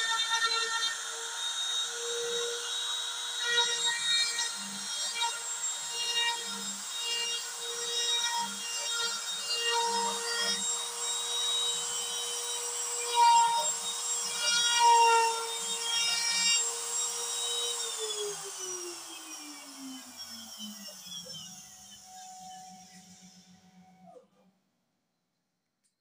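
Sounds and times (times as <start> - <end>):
router spinning down: 0.0 - 24.4
router whining cutting wood: 0.0 - 24.5.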